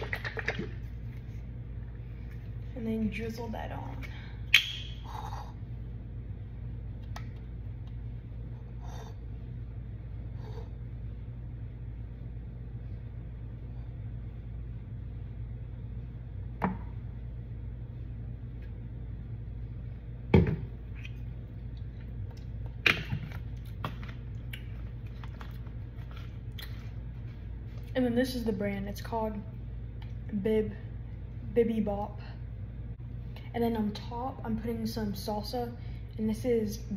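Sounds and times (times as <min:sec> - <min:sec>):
low hum: 0:00.0 - 0:36.9.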